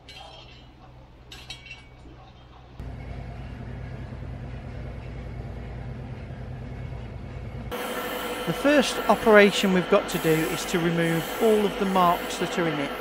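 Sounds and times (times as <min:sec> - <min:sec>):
low hum of workshop machinery: 0:00.0 - 0:13.0.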